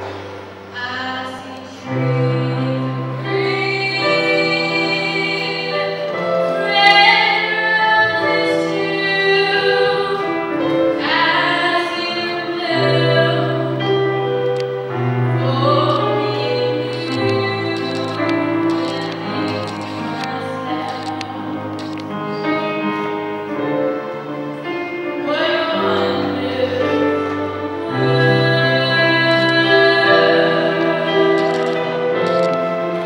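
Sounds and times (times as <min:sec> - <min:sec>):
keyboard sustaining chords: 0:00.0 - 0:33.0
woman singing with vibrato: 0:00.7 - 0:13.9, 0:15.2 - 0:21.8, 0:24.9 - 0:31.9.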